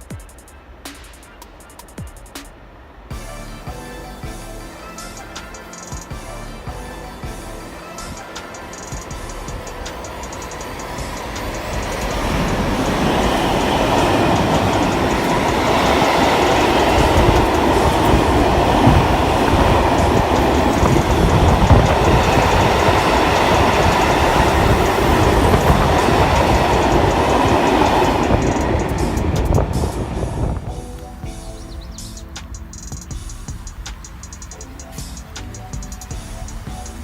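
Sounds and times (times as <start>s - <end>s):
train wheels clacking on rails: 7.2s - 37.0s.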